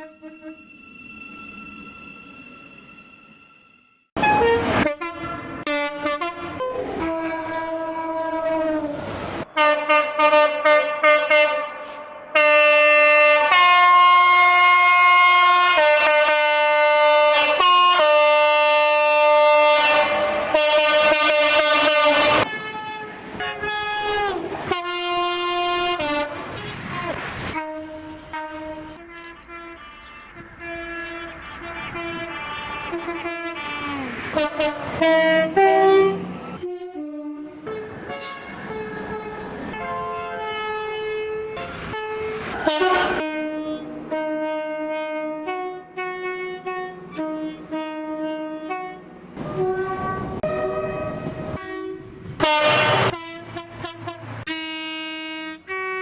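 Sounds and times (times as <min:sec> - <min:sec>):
train horn blasts: 0:00.0 - 0:00.8, 0:04.2 - 0:56.0.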